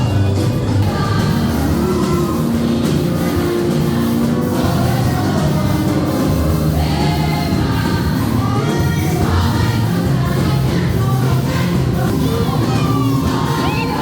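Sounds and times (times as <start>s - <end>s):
gospel choir singing over beat: 0.0s - 14.0s.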